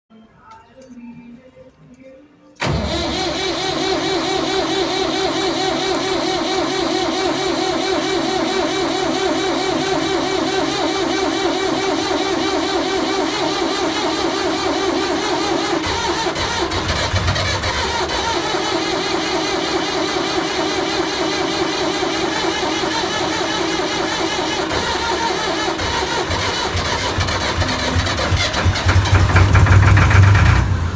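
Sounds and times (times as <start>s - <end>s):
deep engine rumble: 2.6s - 30.9s
engine running roughly: 2.6s - 30.9s.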